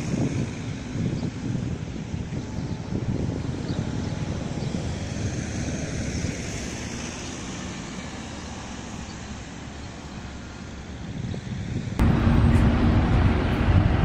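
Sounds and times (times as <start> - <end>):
bus engine and tyre rumble: 0.0 - 14.0.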